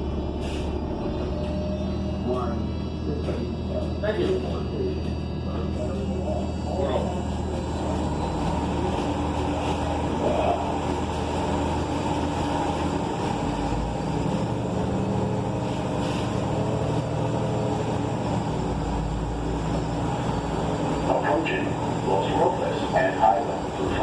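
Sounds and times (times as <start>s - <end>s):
bus engine running: 0.0s - 24.0s
road noise: 0.0s - 24.0s.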